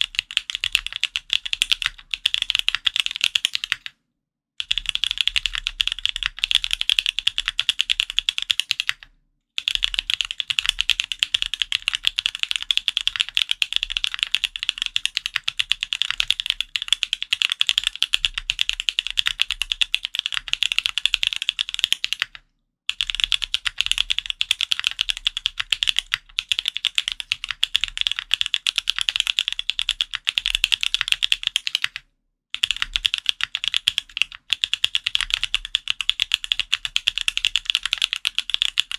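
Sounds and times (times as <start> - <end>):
mechanical keyboard typing: 0.0 - 4.0, 4.6 - 32.0, 32.6 - 38.9.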